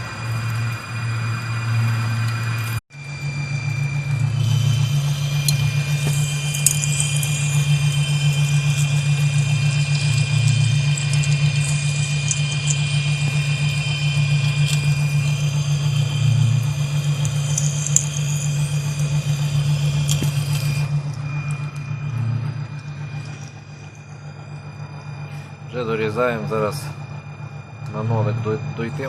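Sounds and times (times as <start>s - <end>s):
crackling from cutting metal: 0.0s - 24.2s
high whine: 0.0s - 29.0s
lathe machine hum: 0.0s - 29.0s.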